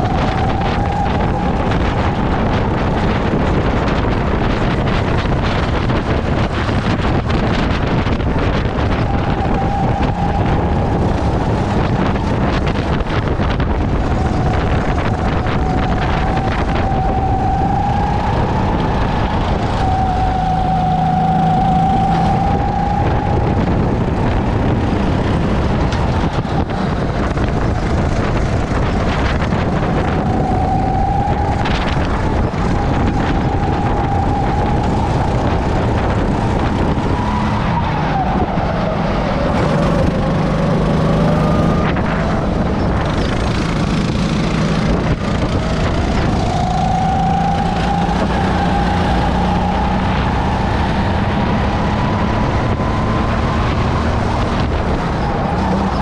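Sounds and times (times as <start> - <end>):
go-kart engine rumbling: 0.0 - 56.0.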